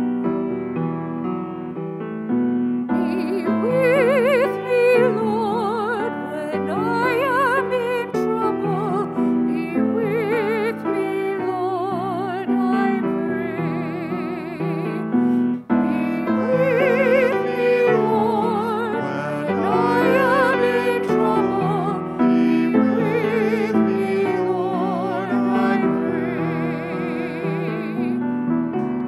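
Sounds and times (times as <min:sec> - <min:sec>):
piano accompaniment: 0:00.0 - 0:29.0
woman singing with vibrato: 0:03.0 - 0:28.4.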